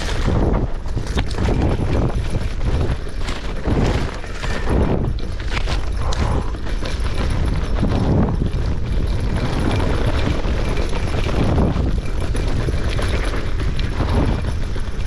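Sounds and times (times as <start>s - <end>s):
low rumble: 0.0s - 12.5s
bike rattling and knocking: 0.0s - 15.0s
tyres over dirt and stones: 0.0s - 15.0s.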